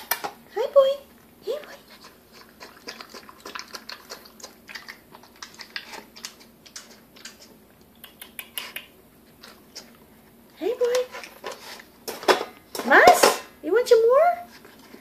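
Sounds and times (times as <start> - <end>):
puppy eating from a bowl: 0.0 - 13.4.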